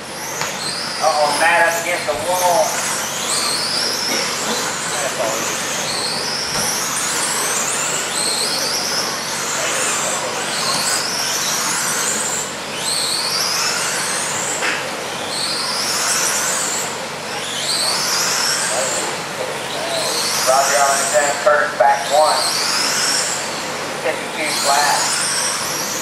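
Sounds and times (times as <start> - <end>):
toy truck motors whining: 0.0 - 26.0.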